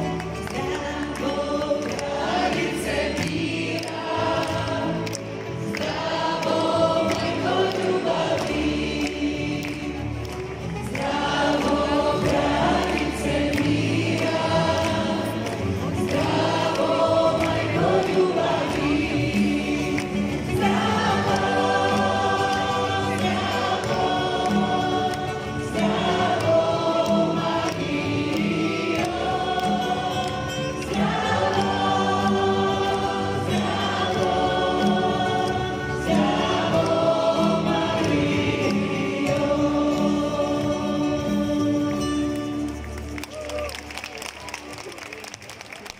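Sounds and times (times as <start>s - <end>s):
congregation singing a hymn: 0.0s - 42.9s
acoustic guitar: 0.0s - 44.0s
keyboard: 0.0s - 45.9s.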